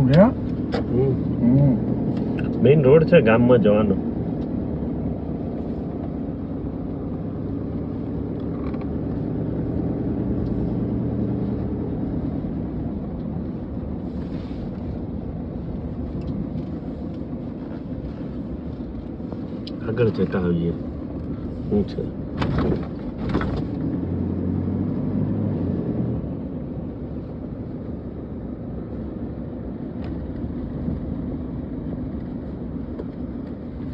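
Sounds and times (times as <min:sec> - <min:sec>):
vehicle engine and road noise: 0:00.0 - 0:33.9.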